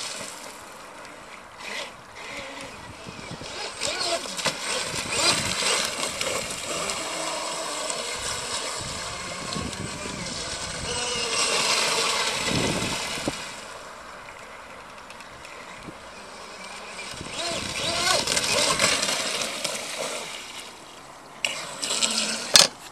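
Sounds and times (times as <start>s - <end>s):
electric motor whine: 0.0s - 20.8s, 21.4s - 22.9s.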